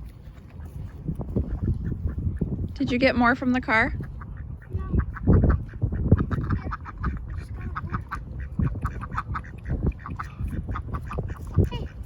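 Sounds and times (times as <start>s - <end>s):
ducks quacking: 0.2s - 12.0s.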